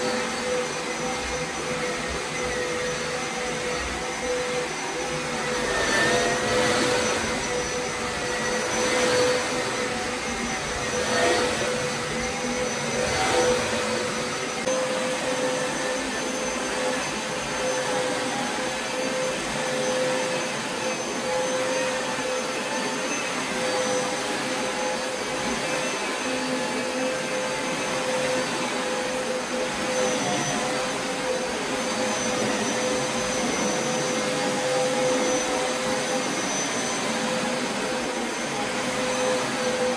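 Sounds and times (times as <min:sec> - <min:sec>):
carpet cleaner suction motor: 0:00.0 - 0:39.9.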